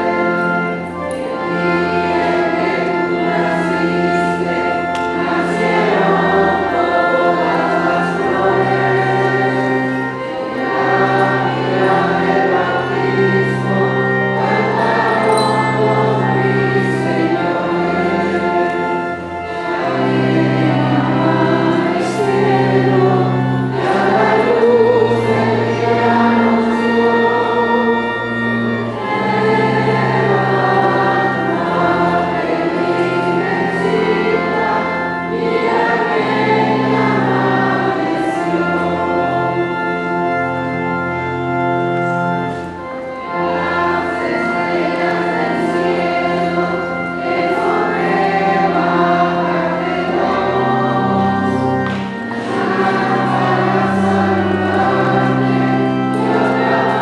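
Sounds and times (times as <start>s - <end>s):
choir singing a hymn: 0.0s - 57.0s
low organ notes: 0.0s - 57.0s.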